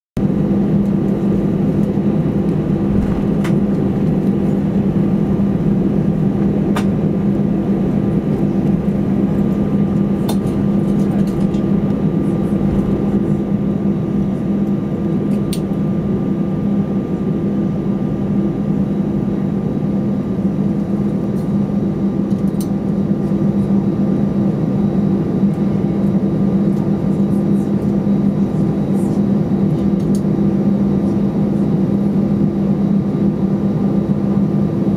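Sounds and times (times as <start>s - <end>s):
jet engines idling hum: 0.2s - 34.9s.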